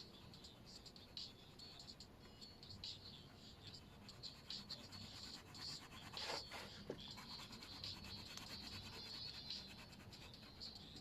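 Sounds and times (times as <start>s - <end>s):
colouring tool scratching on paper: 0.2s - 11.0s.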